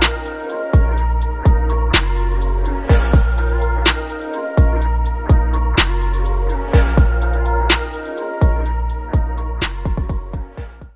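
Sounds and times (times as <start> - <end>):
background music with drum beat: 0.0 - 10.9.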